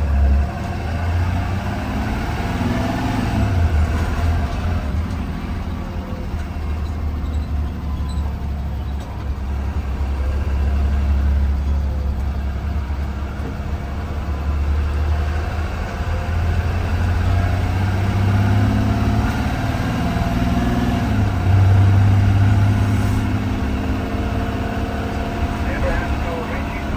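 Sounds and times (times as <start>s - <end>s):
bus cabin noise: 0.0s - 26.9s
bus engine drone: 0.0s - 26.9s.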